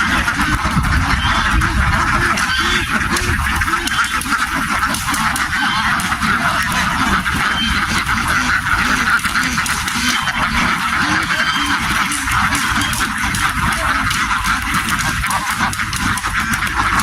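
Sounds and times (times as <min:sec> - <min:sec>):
flock of ducks quacking: 0:00.0 - 0:17.0.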